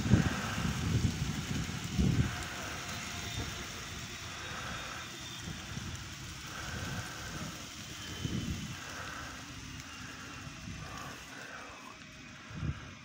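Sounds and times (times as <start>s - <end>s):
helicopter engine drone: 0.0s - 13.0s
wind buffeting microphone: 0.0s - 13.0s.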